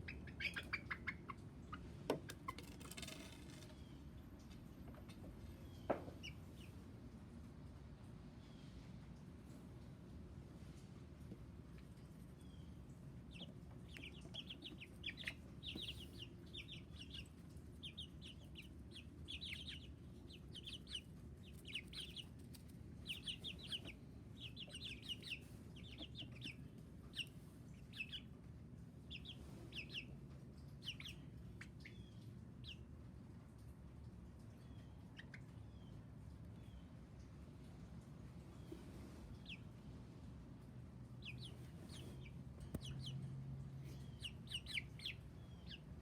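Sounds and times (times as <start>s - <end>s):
baby chicks peeping: 0.0s - 6.9s, 11.8s - 46.0s.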